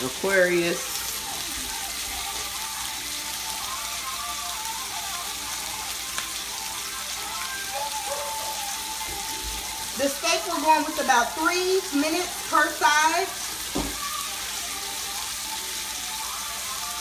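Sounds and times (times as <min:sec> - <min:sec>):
food sizzling in pans: 0:00.0 - 0:17.0.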